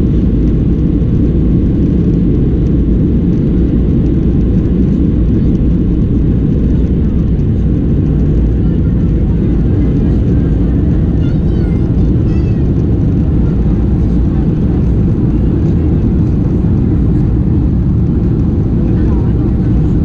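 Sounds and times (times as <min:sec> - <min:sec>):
jet engines rumbling: 0:00.0 - 0:20.0
rushing airflow: 0:00.0 - 0:20.0.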